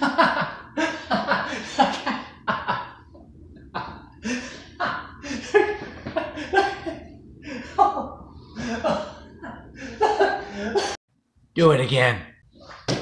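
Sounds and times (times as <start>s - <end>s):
man laughing: 0.0s - 11.0s.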